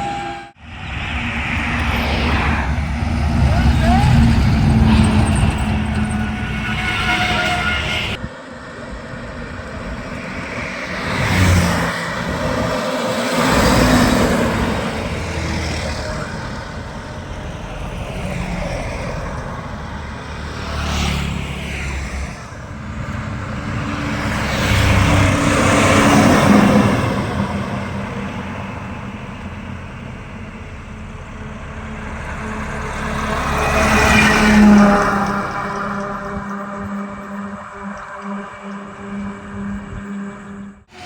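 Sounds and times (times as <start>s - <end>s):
steady road rumble: 0.0s - 41.0s
vehicles passing: 0.0s - 41.0s.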